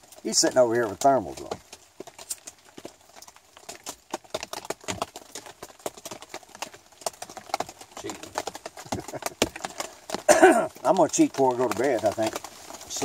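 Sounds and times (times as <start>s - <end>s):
raindrops tapping on tarp: 0.0s - 13.0s.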